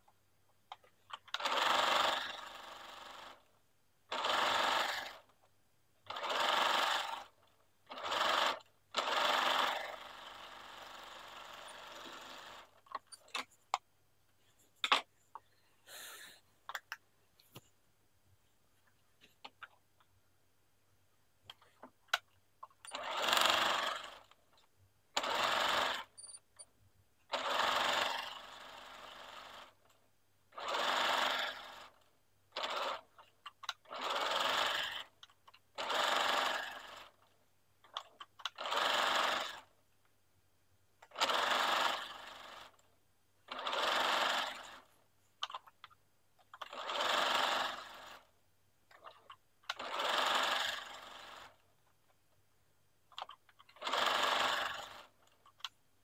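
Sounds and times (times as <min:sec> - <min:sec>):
sewing machine stitching: 0:00.7 - 0:13.8, 0:21.5 - 0:39.8, 0:41.0 - 0:52.1, 0:53.1 - 0:55.8.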